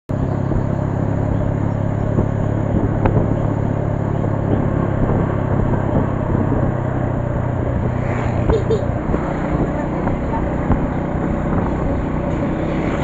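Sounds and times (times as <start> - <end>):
road noise: 0.1 - 13.0
vehicle engine hum: 0.1 - 13.0.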